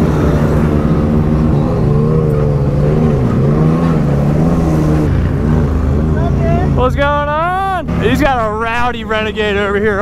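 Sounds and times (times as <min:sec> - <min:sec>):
engine revving at low speed: 0:00.0 - 0:10.0.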